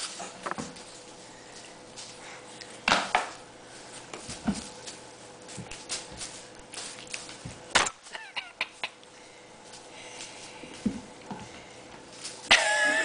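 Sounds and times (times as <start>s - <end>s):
cats scuffing and scratching: 0.0s - 12.6s.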